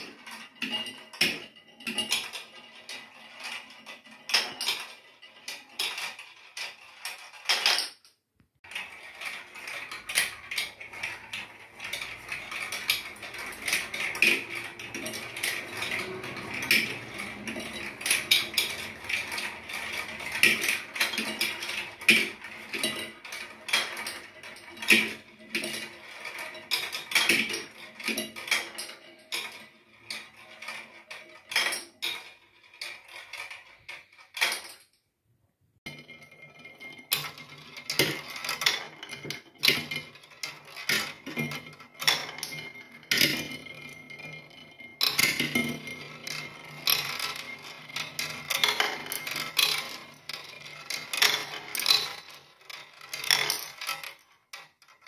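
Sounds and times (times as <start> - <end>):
marbles rattling along plastic track: 0.0 - 35.0, 35.8 - 55.0.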